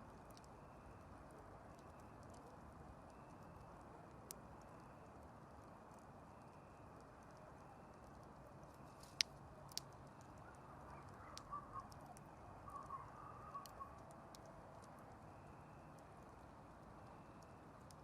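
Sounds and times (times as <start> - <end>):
campfire crackling and popping: 0.1 - 18.0.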